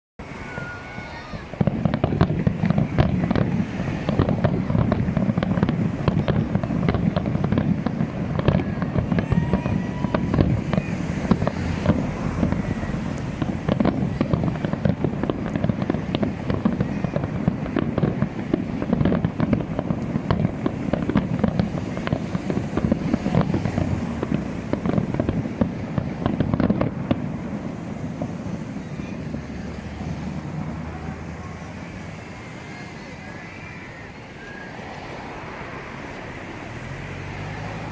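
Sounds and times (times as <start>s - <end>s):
fireworks bangs and crackles: 0.2s - 37.9s.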